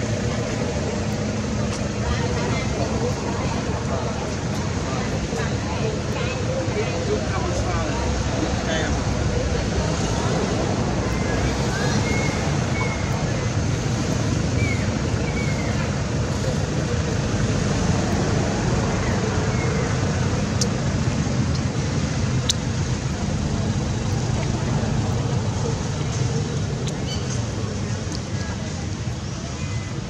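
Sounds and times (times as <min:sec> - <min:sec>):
low rumble with hiss: 0:00.0 - 0:30.0.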